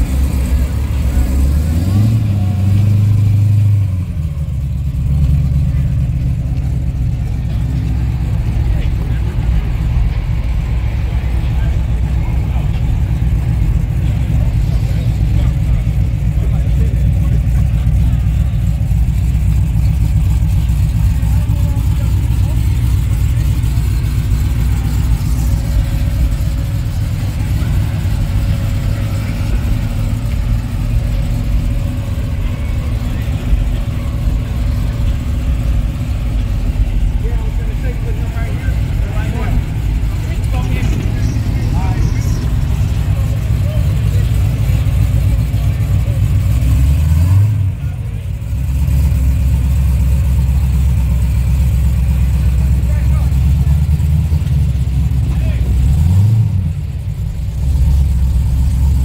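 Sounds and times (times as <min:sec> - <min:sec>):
car engine low rumble: 0:00.0 - 0:59.0.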